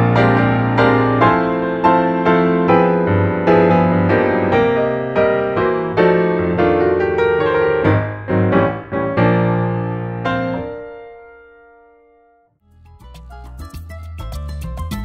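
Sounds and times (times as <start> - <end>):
gentle piano melody: 0.0 - 12.6.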